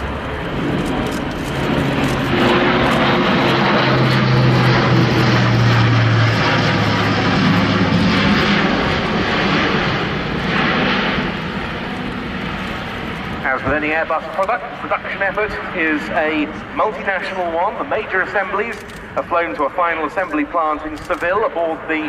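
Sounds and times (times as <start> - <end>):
propeller aircraft droning past: 0.0 - 22.0.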